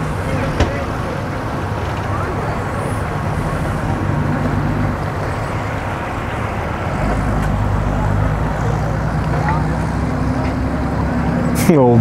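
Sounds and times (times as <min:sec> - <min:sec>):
outboard boat engine humming: 0:00.0 - 0:12.0.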